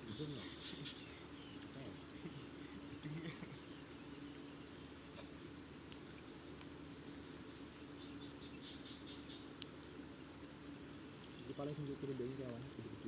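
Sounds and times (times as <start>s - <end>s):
crickets trilling: 0.0s - 13.0s
faint low hum: 0.0s - 13.0s.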